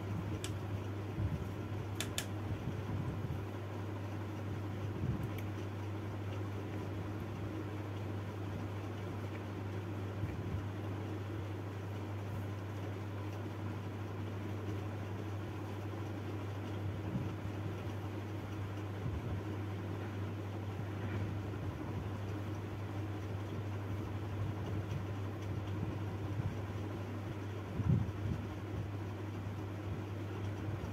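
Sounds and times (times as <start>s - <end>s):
mechanical hum: 0.0s - 30.9s.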